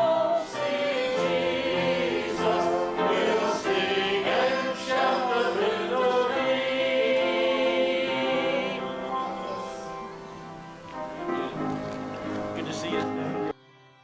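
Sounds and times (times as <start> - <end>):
voices singing a hymn: 0.0 - 13.6.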